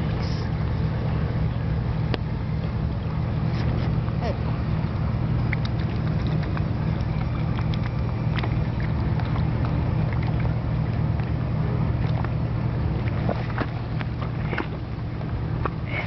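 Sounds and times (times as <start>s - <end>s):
low engine hum: 0.0s - 16.0s
small water sounds: 0.0s - 16.0s.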